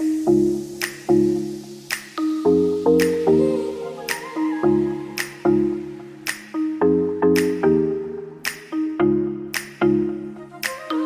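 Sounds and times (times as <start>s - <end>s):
regular percussion beat: 0.0s - 11.0s.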